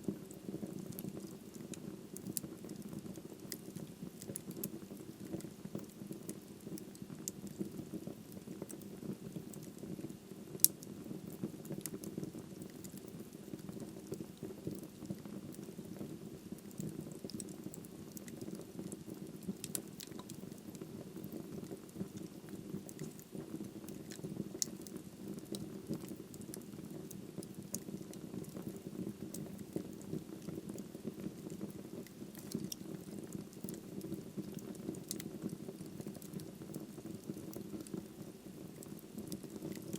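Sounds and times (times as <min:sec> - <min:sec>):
wood fire crackling: 0:00.0 - 0:39.9
fire pops and snaps: 0:00.1 - 0:39.9.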